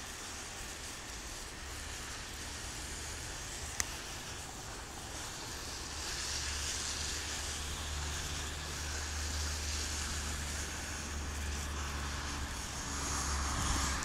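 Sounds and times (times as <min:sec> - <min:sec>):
wind rushing over microphone: 0:02.4 - 0:14.0.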